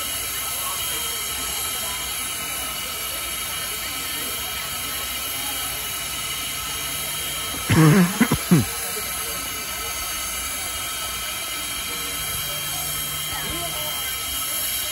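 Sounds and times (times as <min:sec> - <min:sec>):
steam locomotive hissing: 0:00.0 - 0:14.9.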